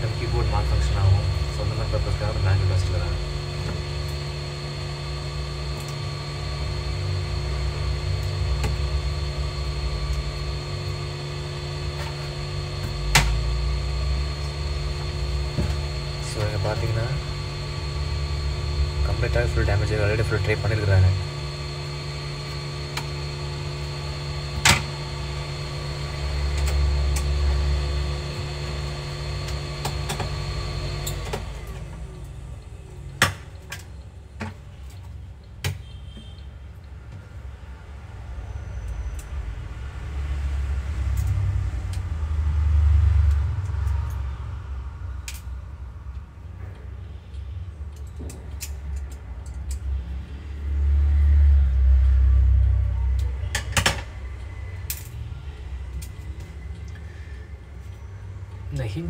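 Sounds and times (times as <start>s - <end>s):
steady motor hum: 0.0s - 59.0s.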